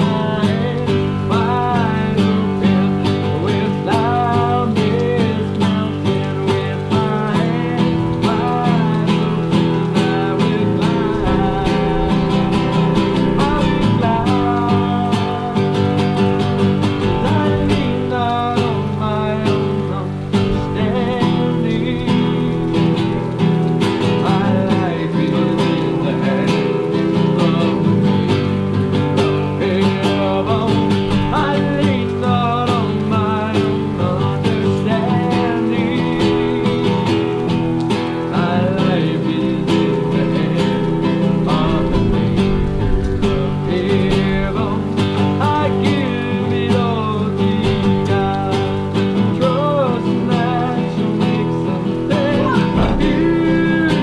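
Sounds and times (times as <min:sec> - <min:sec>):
country acoustic guitar music: 0:00.0 - 0:54.0.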